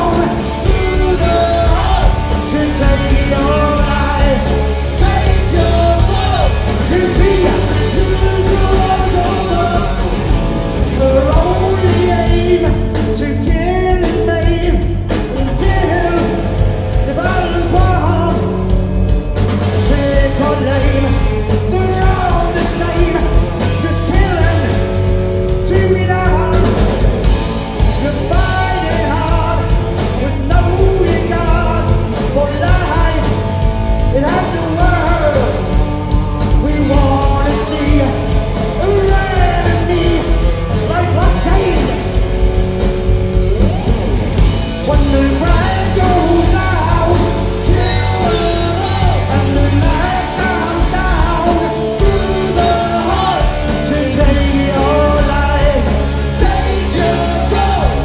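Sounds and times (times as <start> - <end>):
person singing: 0.0 - 10.3, 10.9 - 24.9, 28.0 - 42.2, 44.8 - 58.0
live rock band playing: 0.0 - 58.0.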